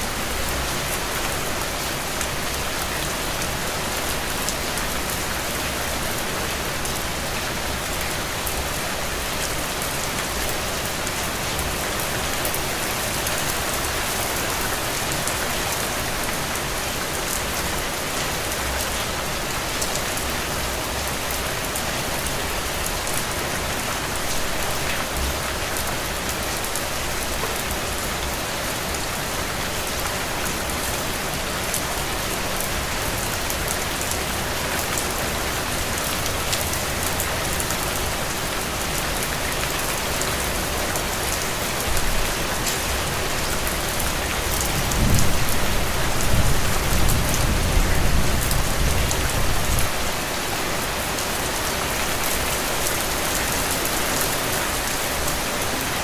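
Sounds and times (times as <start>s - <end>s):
heavy rain pattering on ground: 0.0s - 56.0s.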